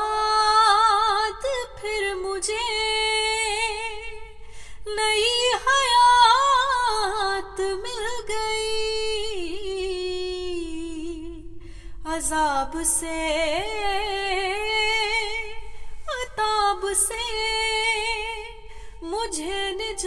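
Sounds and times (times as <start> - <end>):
woman singing unaccompanied: 0.0 - 4.3, 4.9 - 20.0.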